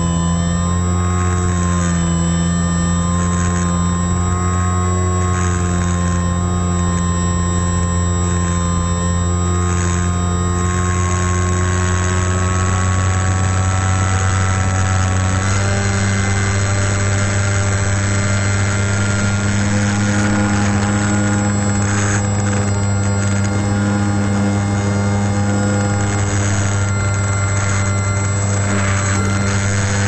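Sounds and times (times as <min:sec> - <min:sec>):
model airplane motor droning: 0:00.0 - 0:30.0.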